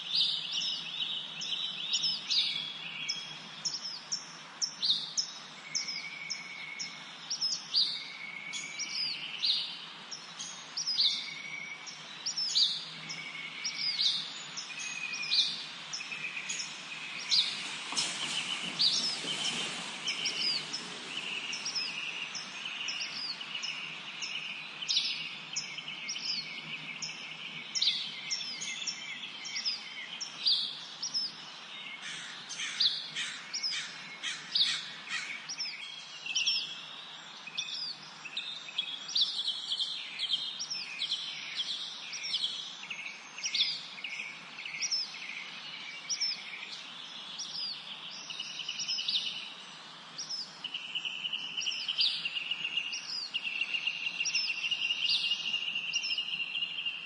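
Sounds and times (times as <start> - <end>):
faint background hiss: 0.0 - 57.0
songbirds singing and chirping: 0.0 - 57.0.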